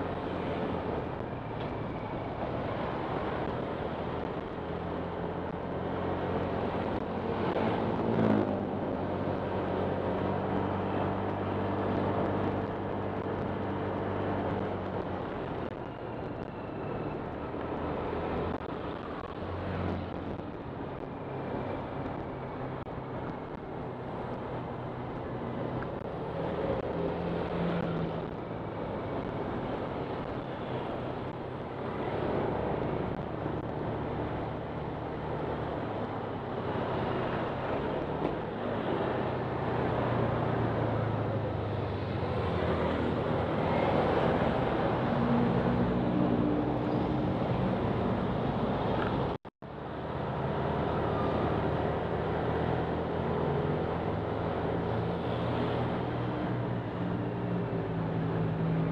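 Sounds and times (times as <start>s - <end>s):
road and wind noise: 0.0s - 58.9s.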